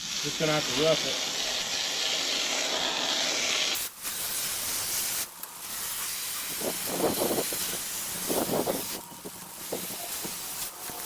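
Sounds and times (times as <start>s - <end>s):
hose spraying water: 0.0s - 11.0s.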